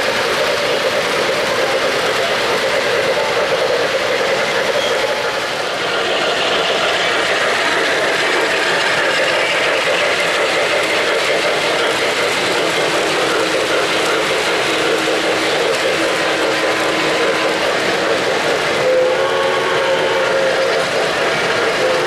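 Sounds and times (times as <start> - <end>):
model trains rattling on track: 0.0 - 22.0.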